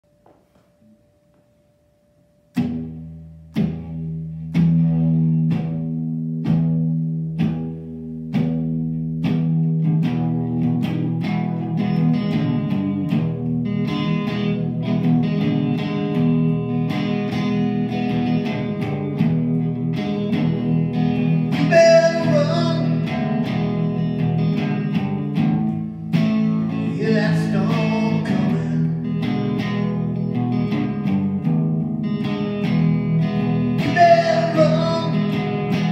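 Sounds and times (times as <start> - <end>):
electric guitar through amplifier: 0.1 - 35.9.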